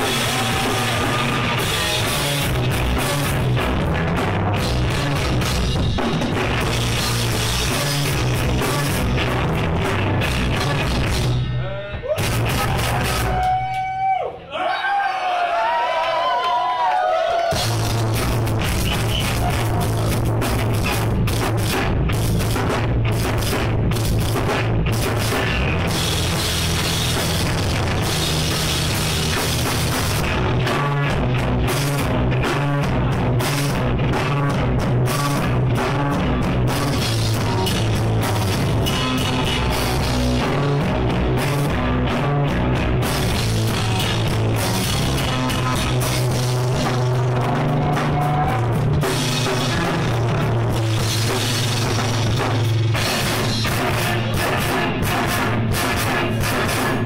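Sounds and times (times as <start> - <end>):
live rock band playing: 0.0 - 14.0, 17.4 - 57.0.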